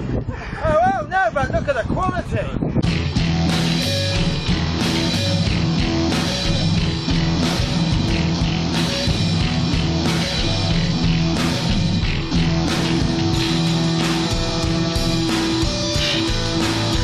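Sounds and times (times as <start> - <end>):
distorted electric guitar: 2.8 - 17.0
steady drum beat: 2.8 - 17.0.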